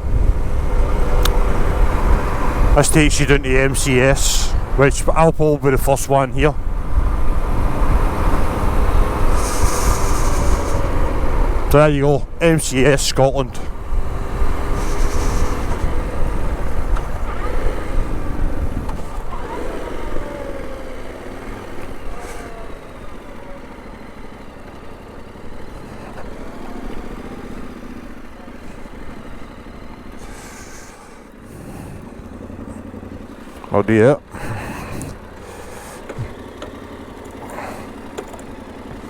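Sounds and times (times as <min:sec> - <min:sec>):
motorcycle engine slowing down: 0:00.0 - 0:39.0.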